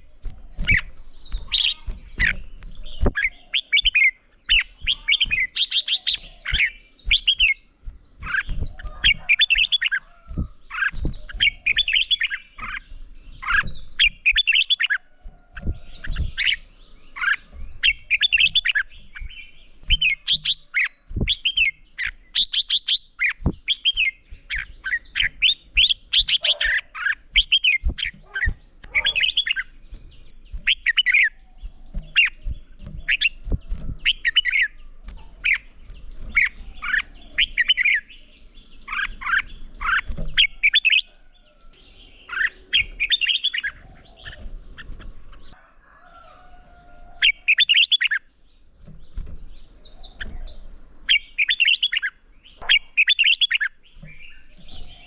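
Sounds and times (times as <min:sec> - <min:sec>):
birds singing warbled phrases: 0:00.0 - 0:55.0.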